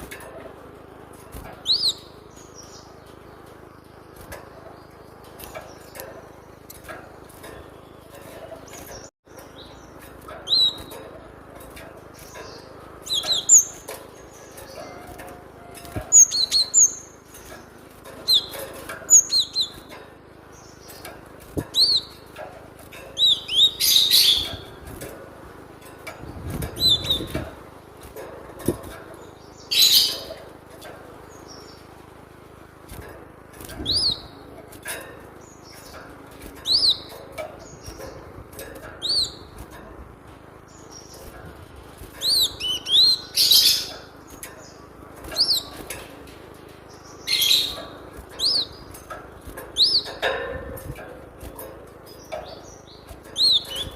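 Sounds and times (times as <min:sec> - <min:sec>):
bird chirping: 0:01.3 - 0:25.2, 0:26.2 - 0:32.1, 0:33.6 - 0:39.8, 0:40.5 - 0:53.9.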